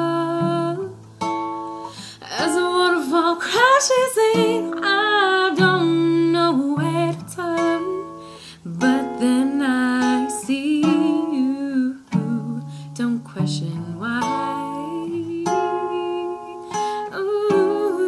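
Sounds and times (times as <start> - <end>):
person singing with vibrato: 0.0 - 1.0, 2.0 - 18.0
acoustic guitar chords: 0.0 - 18.0.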